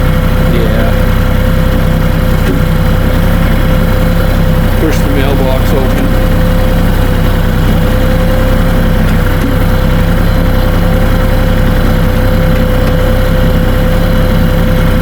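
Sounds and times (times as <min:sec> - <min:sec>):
constant engine whine: 0:00.0 - 0:15.0
tractor diesel engine drone: 0:00.0 - 0:15.0.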